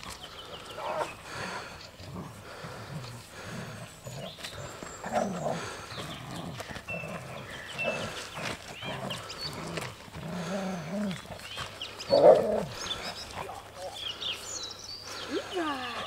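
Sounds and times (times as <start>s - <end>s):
dog growling in play: 0.7s - 14.0s.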